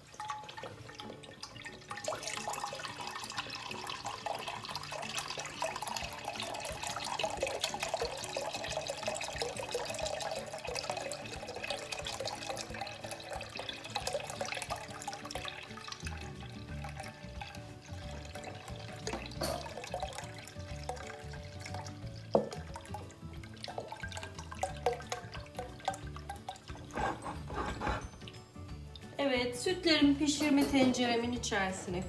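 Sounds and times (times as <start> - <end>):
milk splashing into a pot: 0.0 - 29.2
quiet background music: 0.0 - 32.0.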